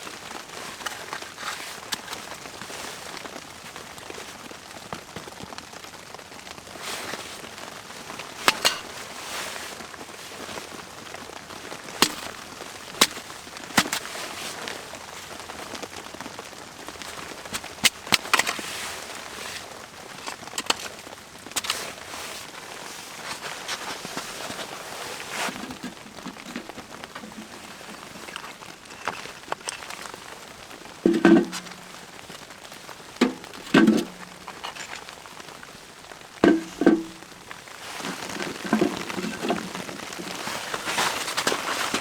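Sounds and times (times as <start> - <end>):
wood fire crackling and popping: 0.0 - 24.8, 25.4 - 42.0.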